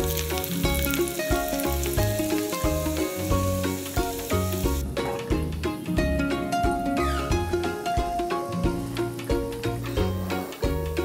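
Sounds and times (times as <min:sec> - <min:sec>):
hot oil sizzling: 0:00.0 - 0:11.0
music with repeating bass line: 0:00.0 - 0:11.0.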